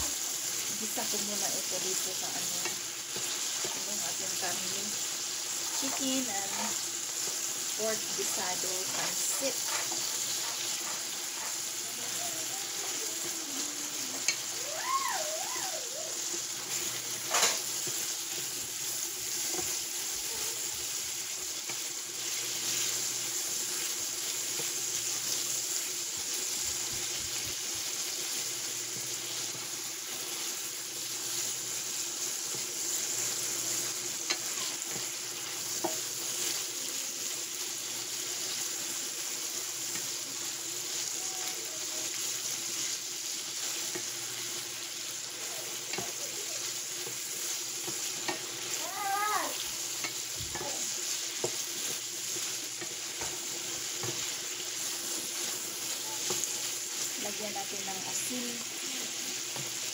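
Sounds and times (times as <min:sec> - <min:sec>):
meat sizzling in a frying pan: 0:00.0 - 0:59.9.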